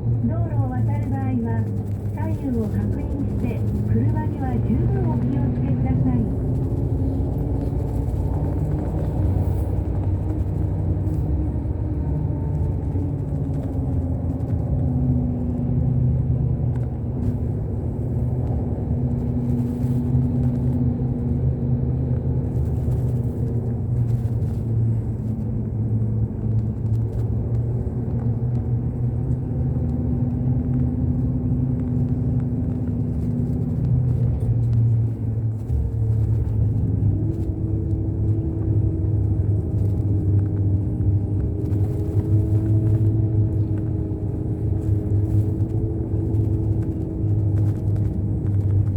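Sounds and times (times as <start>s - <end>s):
bus engine: 0.0s - 48.9s
road rumble: 0.0s - 48.9s.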